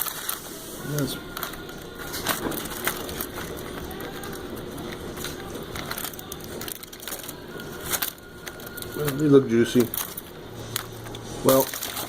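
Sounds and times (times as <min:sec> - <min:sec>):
handling clicks and crackles: 0:00.0 - 0:12.0.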